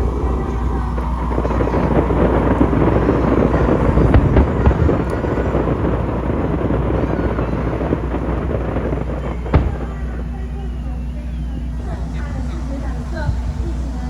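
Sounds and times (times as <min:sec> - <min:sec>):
deep rumble: 0:00.0 - 0:14.0
firework bangs: 0:00.0 - 0:14.0
fireworks crackling: 0:00.0 - 0:14.0.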